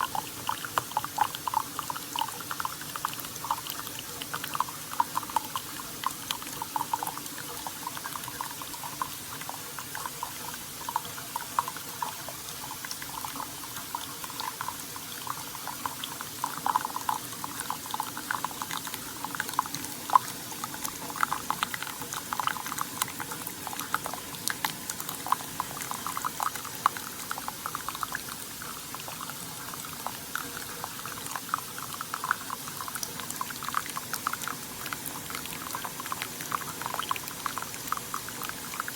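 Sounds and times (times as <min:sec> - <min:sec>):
coffee maker bubbling and gurgling: 0:00.0 - 0:38.9.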